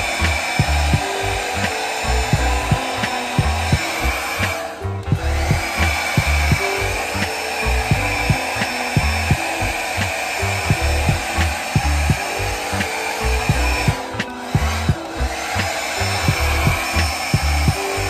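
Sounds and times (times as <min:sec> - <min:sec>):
background music with steady beat: 0:00.0 - 0:18.0
hair dryer blowing: 0:00.0 - 0:18.0.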